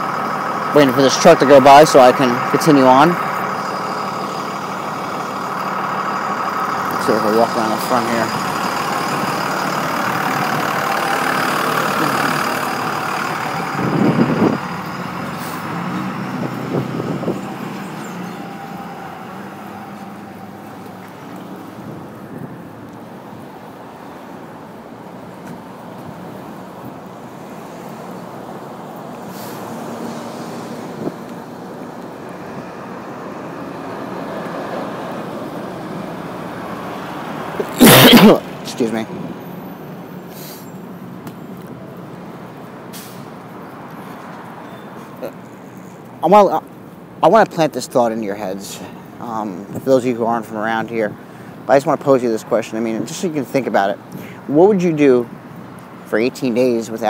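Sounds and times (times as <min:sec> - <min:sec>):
motor vehicle running: 0:00.0 - 0:57.0
truck engine passing: 0:00.0 - 0:57.0.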